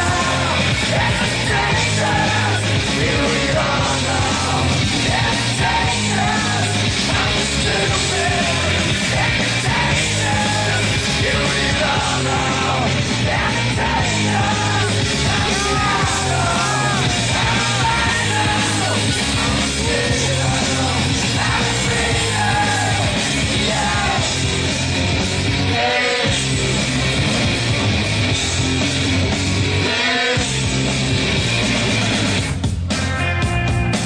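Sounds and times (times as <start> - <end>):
voices yelling and singing: 0.0 - 28.9, 29.7 - 31.0
loud rock music: 0.0 - 34.0.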